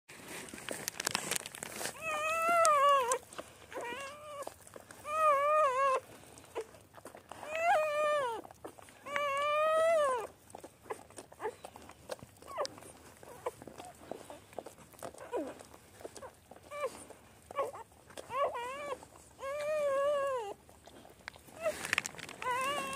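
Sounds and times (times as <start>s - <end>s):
dog licking with small clicks: 0.6s - 22.9s
newborn puppies squealing: 1.8s - 22.9s.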